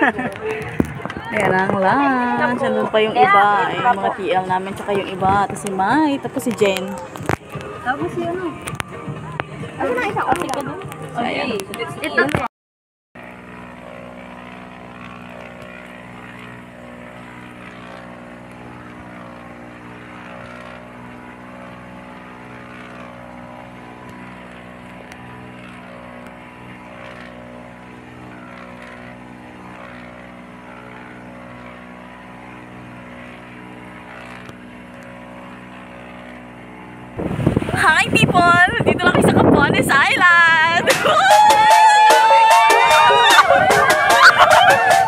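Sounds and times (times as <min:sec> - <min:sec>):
boat engine droning: 0:00.0 - 0:12.5, 0:13.2 - 0:45.0.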